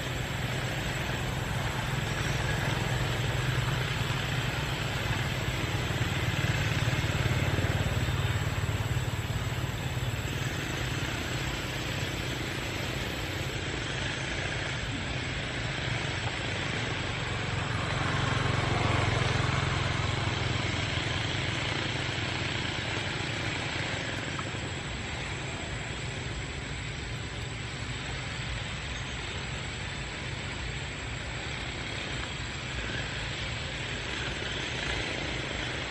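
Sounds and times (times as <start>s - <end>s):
even hiss: 0.0s - 35.9s
vehicle engine rumble: 0.0s - 35.9s.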